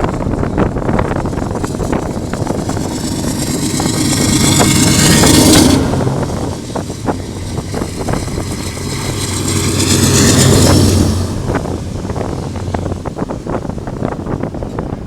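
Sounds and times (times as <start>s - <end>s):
freight train rumbling: 0.0s - 15.0s
loud rushing noise: 0.0s - 15.0s.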